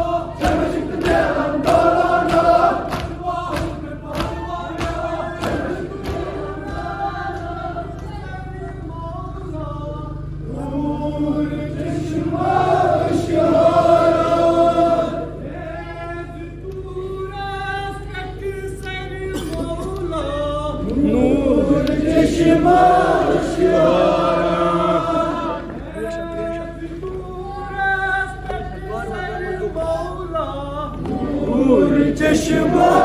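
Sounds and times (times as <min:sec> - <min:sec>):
men chanting a lament: 0:00.0 - 0:33.0.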